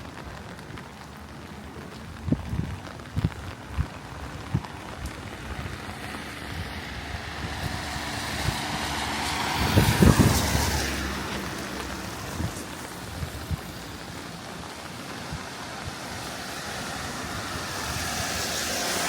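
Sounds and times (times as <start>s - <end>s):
car tyres hissing on wet road: 3.0s - 19.0s.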